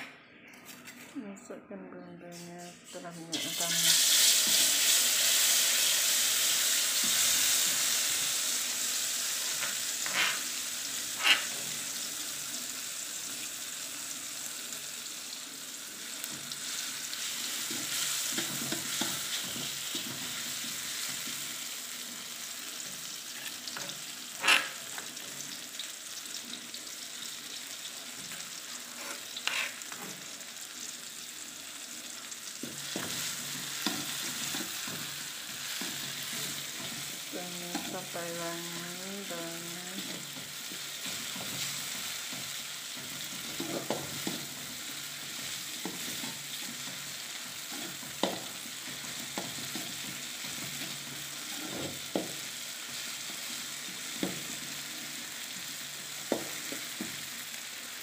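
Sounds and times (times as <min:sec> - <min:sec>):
paste sizzling in hot oil: 0:03.0 - 0:58.0.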